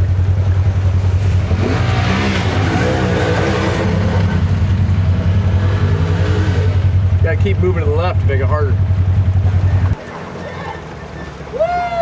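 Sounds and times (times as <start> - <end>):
low engine drone: 0.0 - 12.0
engine revving: 0.7 - 11.5.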